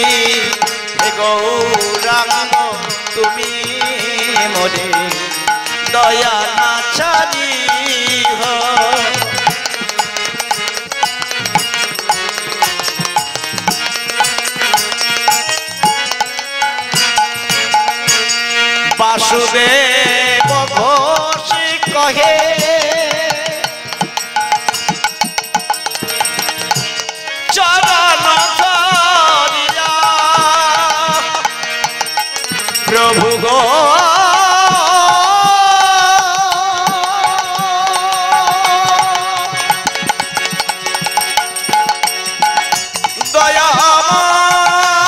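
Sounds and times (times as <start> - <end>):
drum and percussion beat: 0.0 - 45.0
wavering melody: 0.0 - 45.0.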